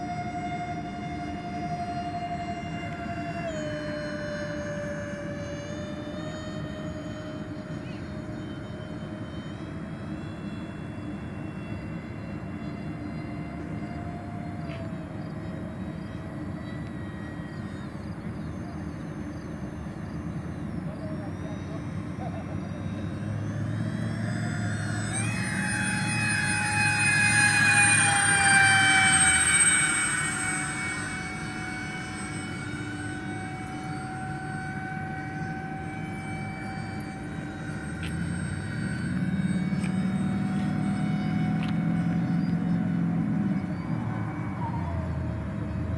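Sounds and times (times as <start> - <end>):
model jet fans whining overhead: 0.0 - 45.9.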